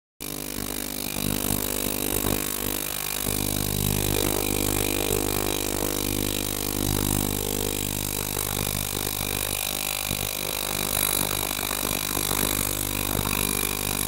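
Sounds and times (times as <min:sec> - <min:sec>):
ultrasonic cleaner buzzing hum: 0:00.2 - 0:14.0.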